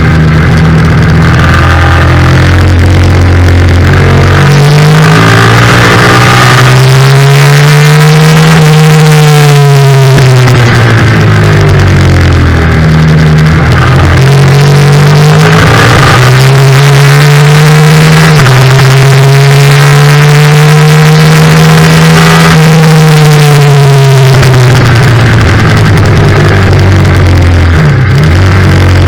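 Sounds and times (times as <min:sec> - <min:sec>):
loud wind noise: 0:00.0 - 0:29.0
motorcycle engine revving: 0:00.0 - 0:29.0.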